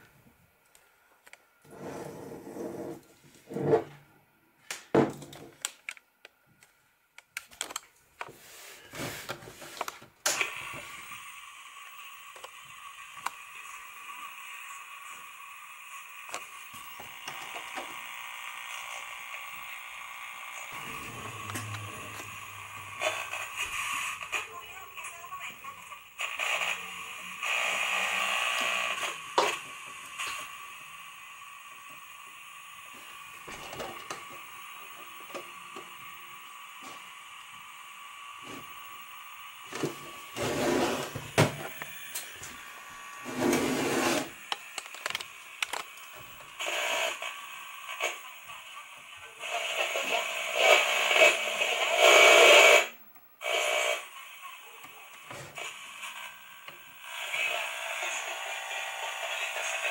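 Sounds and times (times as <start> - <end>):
static hiss from speaker: 7.6 - 59.9.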